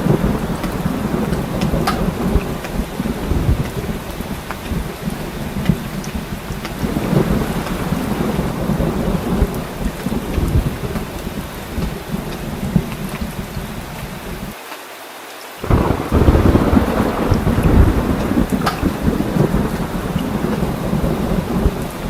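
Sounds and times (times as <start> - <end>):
deep thunder rumble: 0.0 - 14.5, 15.6 - 22.0
heavy rain: 0.0 - 22.0.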